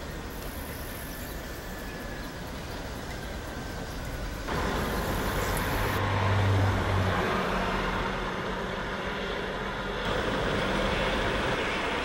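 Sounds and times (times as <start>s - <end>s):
road traffic noise: 0.0s - 12.0s
low engine hum: 1.7s - 12.0s.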